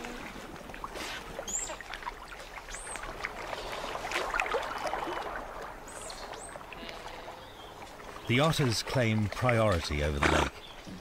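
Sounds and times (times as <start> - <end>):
otters splashing in water: 0.0 - 11.0.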